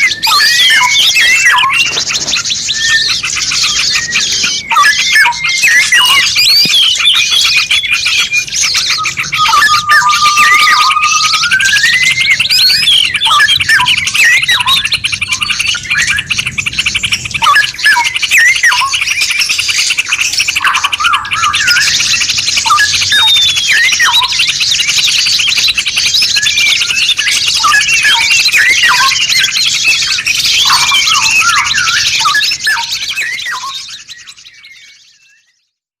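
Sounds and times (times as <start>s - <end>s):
songbirds singing: 0.0s - 35.9s.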